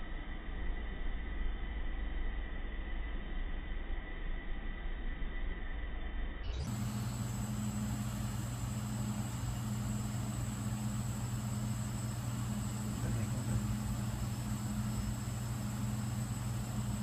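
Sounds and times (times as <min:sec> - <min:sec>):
high-pitched whine: 0:00.0 - 0:17.0
low machine hum: 0:00.0 - 0:17.0.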